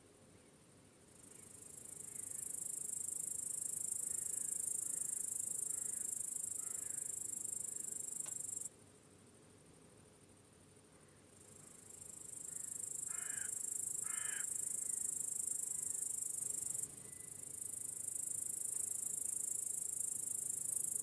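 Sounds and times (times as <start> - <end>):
faint soft insect calls: 0.2 - 21.0
crickets chirping: 1.0 - 8.7, 10.1 - 21.0.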